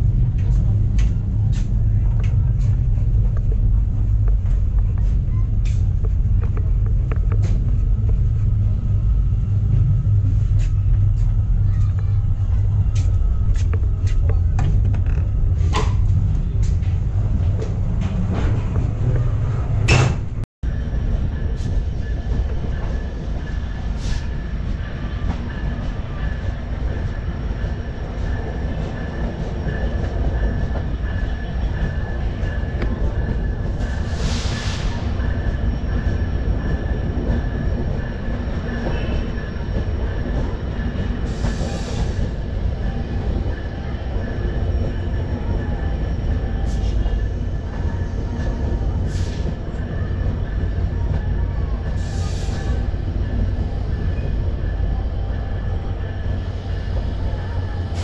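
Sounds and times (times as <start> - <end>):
train coach rumble: 0.0 - 58.0.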